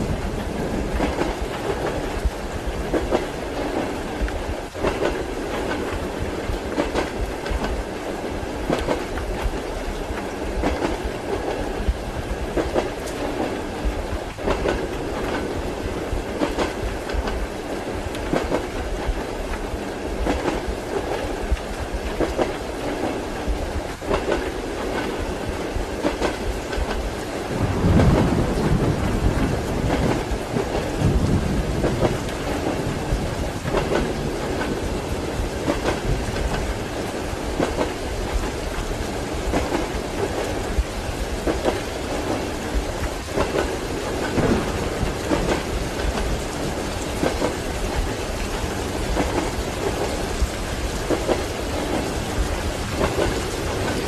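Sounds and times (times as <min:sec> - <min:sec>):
rain hiss: 0:00.0 - 0:54.0
thunder rumbling: 0:00.0 - 0:54.0
train wheels clacking on rails: 0:00.0 - 0:54.0.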